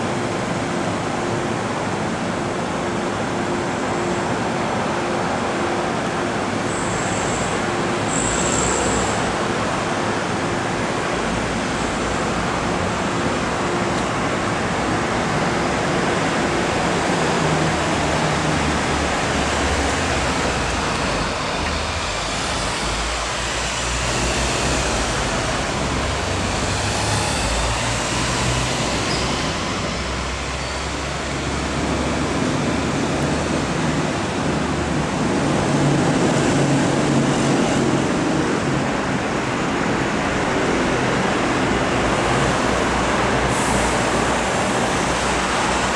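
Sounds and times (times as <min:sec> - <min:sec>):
elevated train: 0:00.0 - 0:45.9
road traffic rumble: 0:00.0 - 0:45.9.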